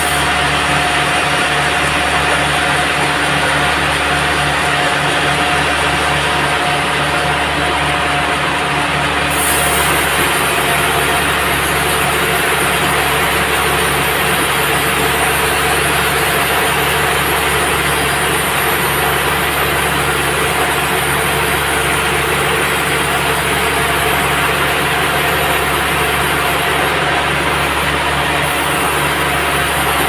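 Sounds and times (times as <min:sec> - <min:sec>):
band sawmill drone: 0:00.0 - 0:30.0.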